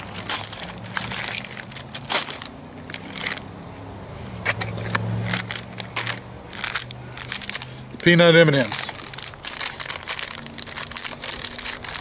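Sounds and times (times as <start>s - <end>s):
food packaging crinkling: 0.0s - 3.4s, 4.4s - 12.0s.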